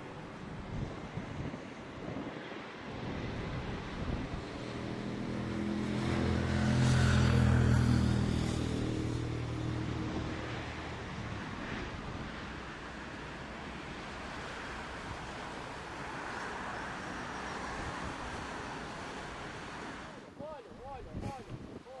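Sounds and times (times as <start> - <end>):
wind buffeting microphone: 0.0 - 5.9, 6.8 - 22.0
jet engines passing: 0.0 - 21.4.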